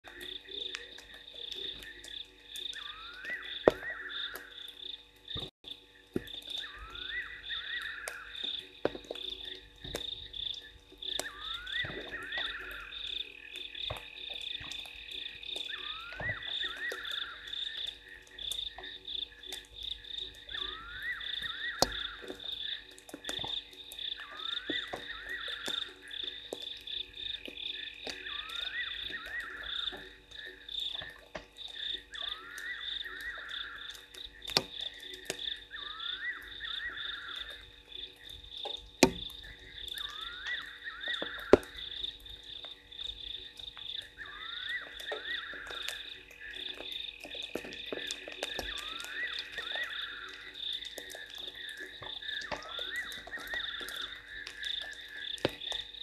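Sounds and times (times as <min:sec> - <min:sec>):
frog chorus trilling: 0:00.0 - 0:56.0
rising frog calls: 0:00.0 - 0:56.0.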